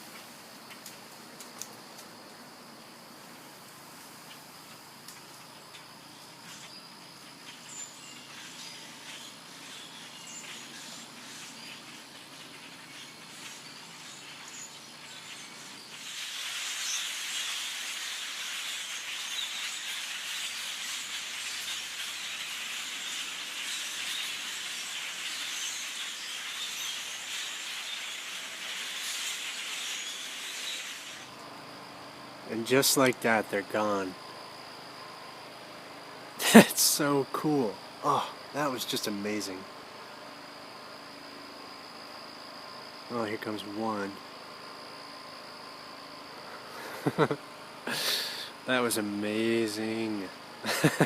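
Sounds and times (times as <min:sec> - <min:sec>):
flock of birds chirping: 0:02.7 - 0:41.4, 0:46.3 - 0:51.0.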